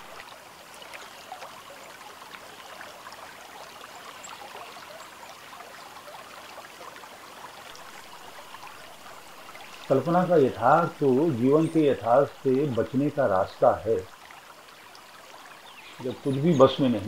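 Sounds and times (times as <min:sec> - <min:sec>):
low steady hiss: 0:00.0 - 0:17.0.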